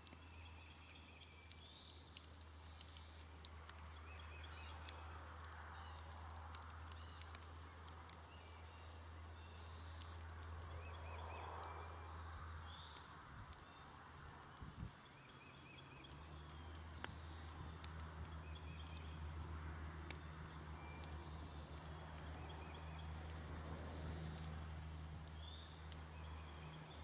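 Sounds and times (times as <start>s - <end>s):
birds chirping: 0.0s - 19.4s, 24.1s - 27.0s
campfire crackling and popping: 0.0s - 27.0s.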